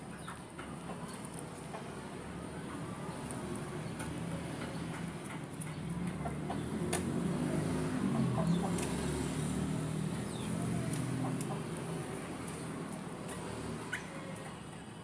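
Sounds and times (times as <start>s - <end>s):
low engine hum: 0.4s - 15.0s.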